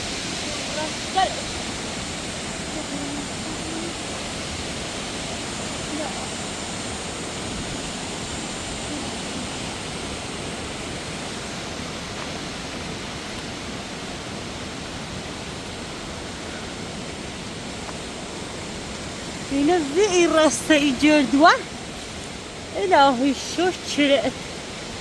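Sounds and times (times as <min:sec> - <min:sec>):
rushing mountain water: 0:00.0 - 0:25.0.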